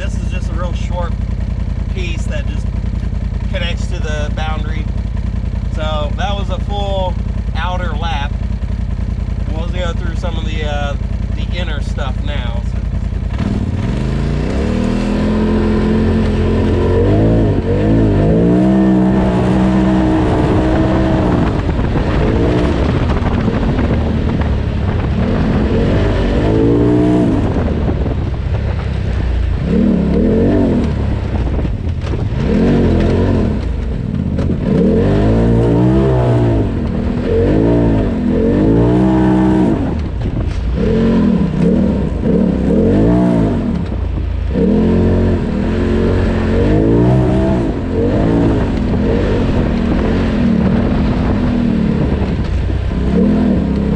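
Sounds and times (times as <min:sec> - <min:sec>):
turbocharged engine revving: 0:00.0 - 0:53.9.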